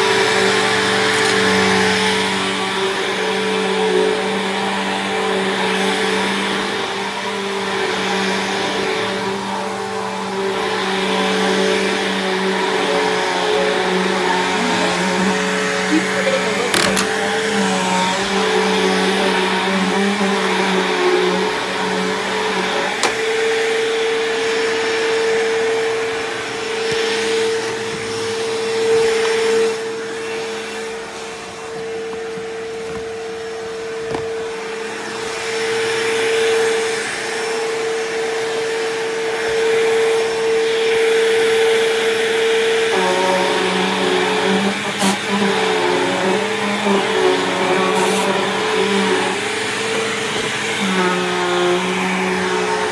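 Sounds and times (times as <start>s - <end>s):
upright vacuum cleaner running: 0.0s - 52.9s.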